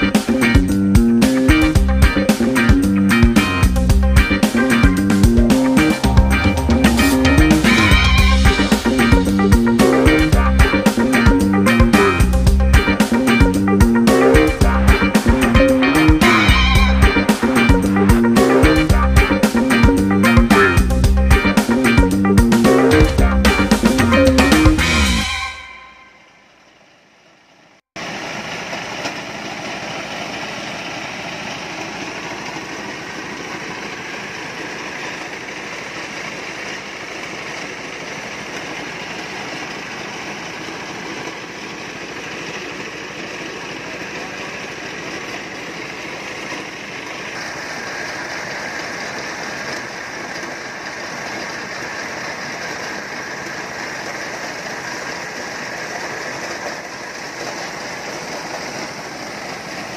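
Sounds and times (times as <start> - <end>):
corn sheller engine running: 0.0 - 25.8, 28.0 - 59.9.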